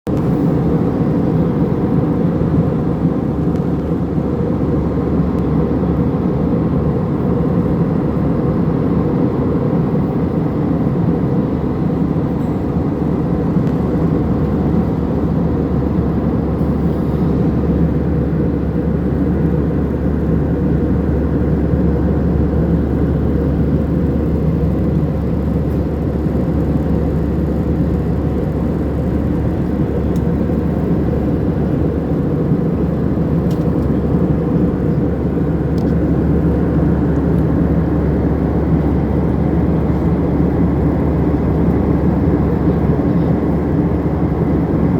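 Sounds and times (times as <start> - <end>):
airplane cabin engine drone: 0.1 - 44.9.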